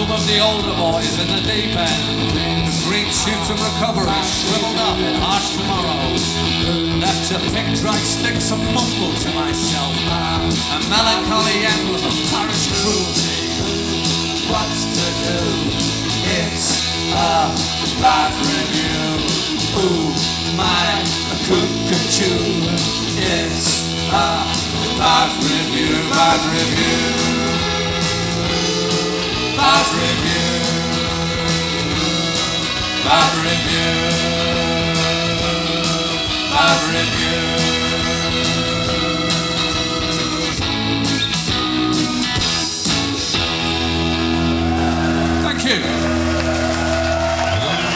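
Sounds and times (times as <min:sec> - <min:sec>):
drums steady beat: 0:00.0 - 0:46.6
electric guitar bending notes: 0:00.0 - 0:47.6
bass guitar: 0:00.0 - 0:47.9.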